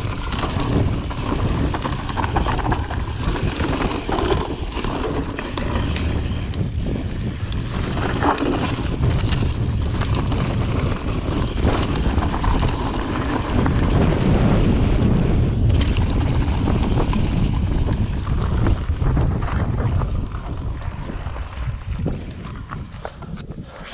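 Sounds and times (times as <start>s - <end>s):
tyres rumbling on trail: 0.0s - 23.9s
wind buffeting microphone: 0.0s - 23.9s.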